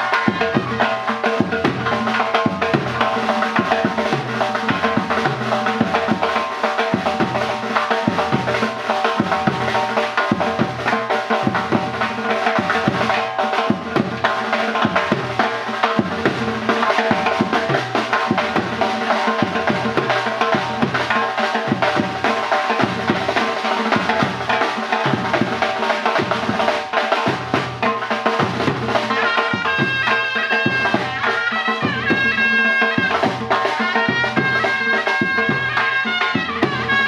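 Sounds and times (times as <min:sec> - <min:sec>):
drums beating: 0:00.0 - 0:37.0.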